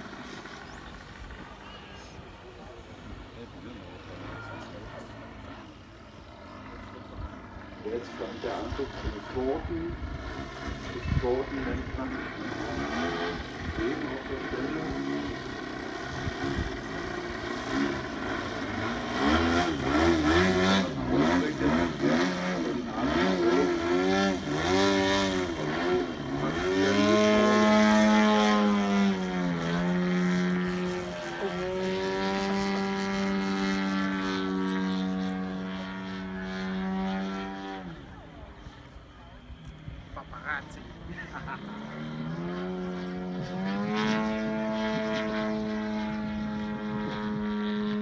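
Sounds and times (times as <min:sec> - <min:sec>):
model plane engine and propeller: 0:00.0 - 0:48.0.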